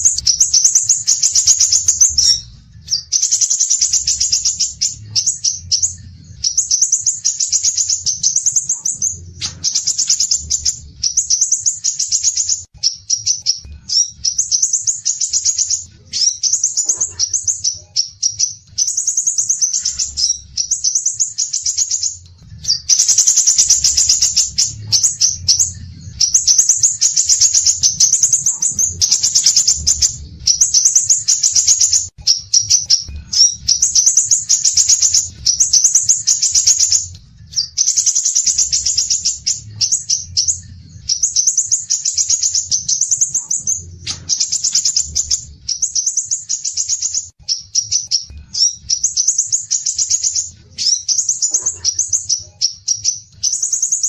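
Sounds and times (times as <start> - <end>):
faint low hum: 0.0 - 54.0
songbird chattering song: 0.0 - 54.0.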